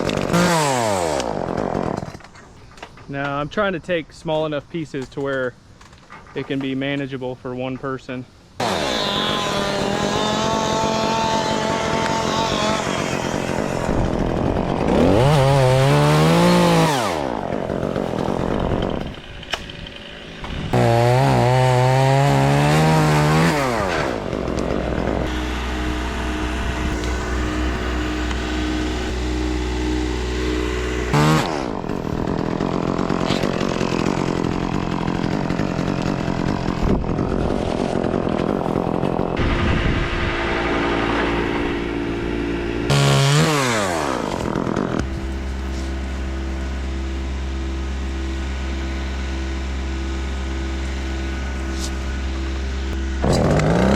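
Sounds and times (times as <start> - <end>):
chainsaw cutting wood: 0.0 - 2.5, 8.6 - 53.9.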